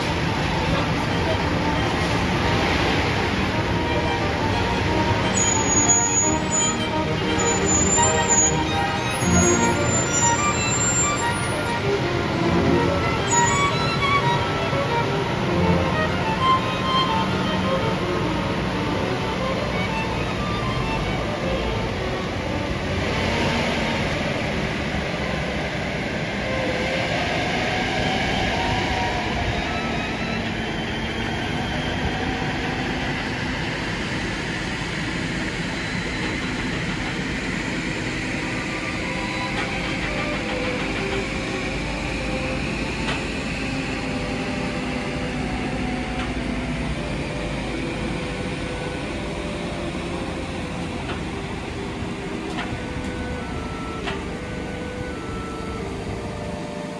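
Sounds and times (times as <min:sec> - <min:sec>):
truck diesel engine rumble: 0:00.0 - 0:27.4, 0:28.8 - 0:56.9.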